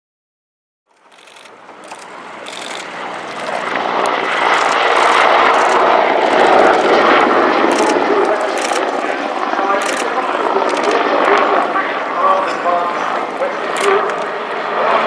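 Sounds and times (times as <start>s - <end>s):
helicopter engines and rotor roar: 0.9s - 15.0s.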